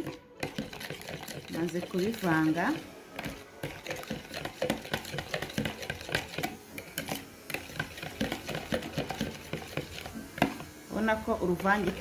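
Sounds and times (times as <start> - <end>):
metal spoon beating in bowl: 0.0 - 10.7, 11.4 - 12.0.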